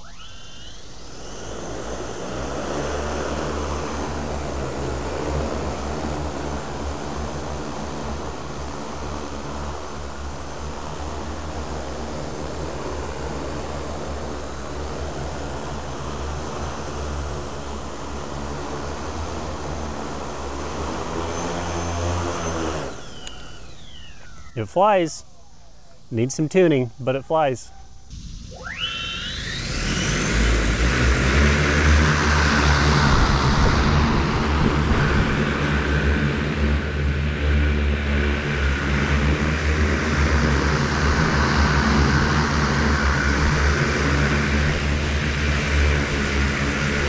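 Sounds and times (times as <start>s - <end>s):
drone propellers spinning: 0.0s - 47.0s.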